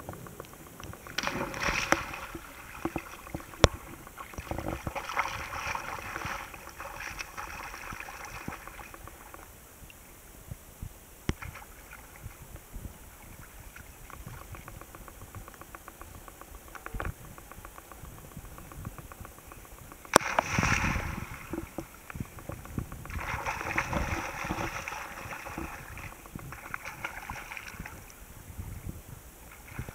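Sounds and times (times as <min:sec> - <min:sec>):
paddling through water: 0:00.0 - 0:29.9.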